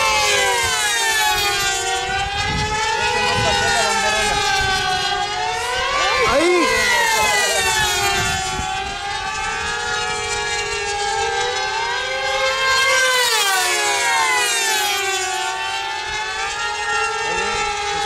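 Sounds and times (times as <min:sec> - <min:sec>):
model airplane engines whining: 0:00.0 - 0:18.0.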